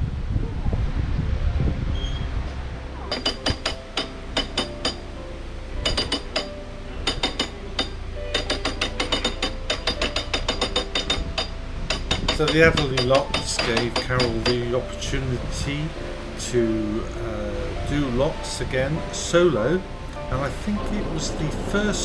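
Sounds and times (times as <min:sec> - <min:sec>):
low steady rumble: 0:00.0 - 0:12.6, 0:14.9 - 0:22.0.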